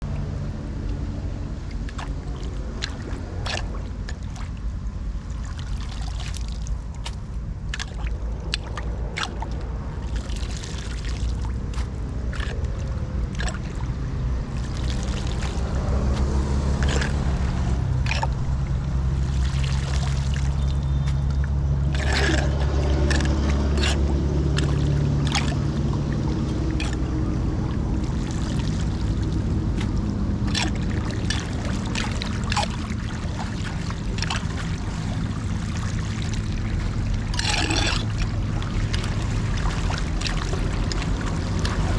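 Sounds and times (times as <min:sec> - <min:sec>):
steady low rumble: 0:00.0 - 0:41.9
water trickling and splashing: 0:00.0 - 0:41.9.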